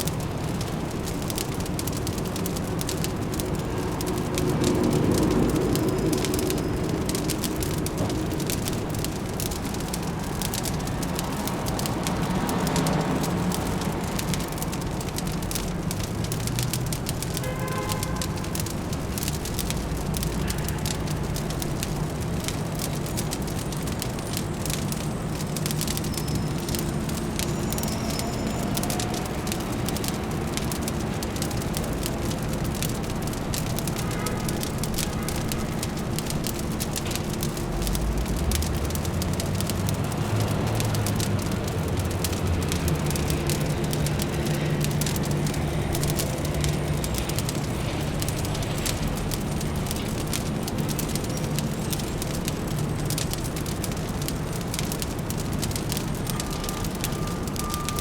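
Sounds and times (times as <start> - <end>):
fire crackling: 0.0 - 58.0
low city hum: 0.0 - 58.0.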